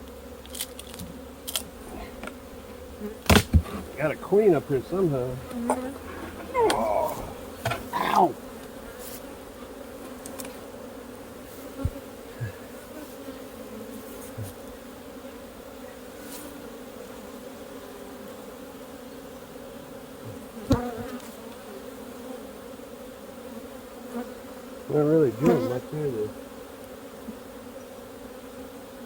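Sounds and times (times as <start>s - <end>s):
honey bees buzzing: 0.0s - 29.0s.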